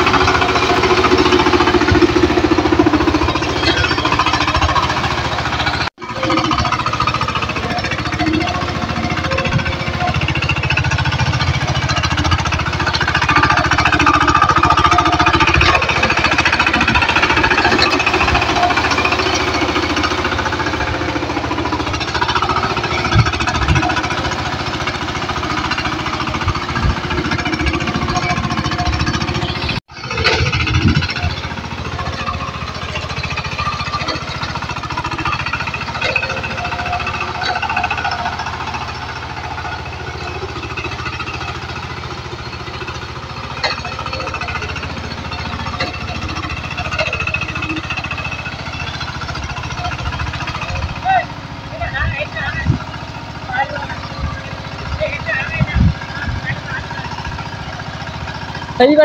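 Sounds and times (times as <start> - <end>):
diesel engine knocking chug: 0.0 - 59.0.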